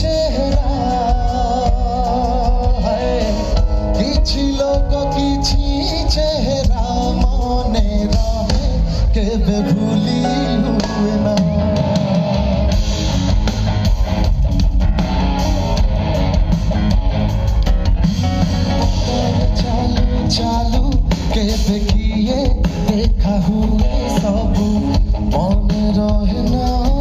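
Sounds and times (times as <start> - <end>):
live band playing loud music: 0.0 - 27.0.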